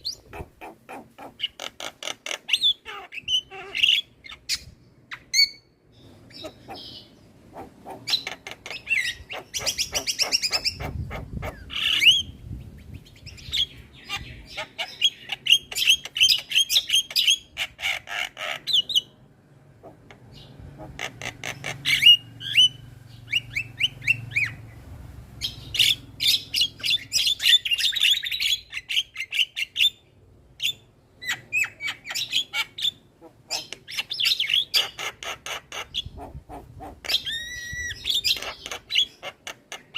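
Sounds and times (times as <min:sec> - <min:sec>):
bird chattering and whistling: 0:00.0 - 0:19.2, 0:19.8 - 0:24.7, 0:25.4 - 0:39.9.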